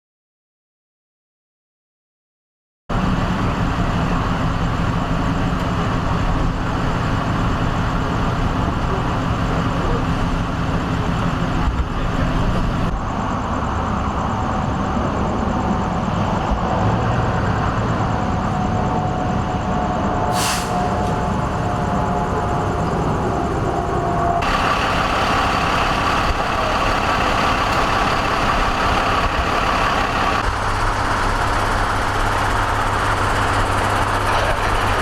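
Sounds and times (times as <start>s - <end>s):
road noise: 2.9s - 35.0s
vehicle engine idling: 2.9s - 35.0s.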